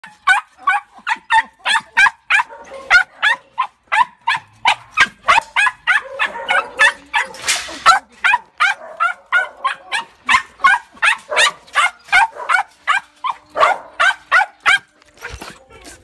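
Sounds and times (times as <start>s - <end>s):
dog yelping: 0.0s - 15.7s.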